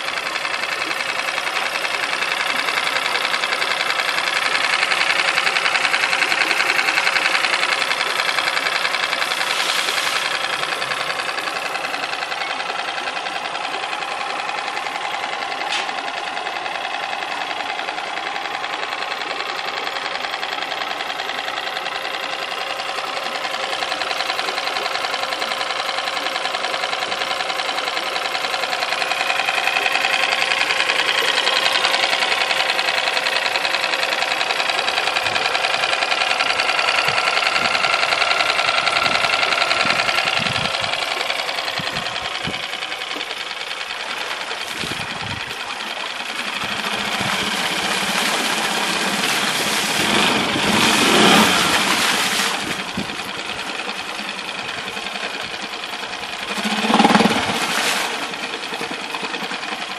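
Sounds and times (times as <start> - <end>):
outboard engine running: 0.0 - 59.9.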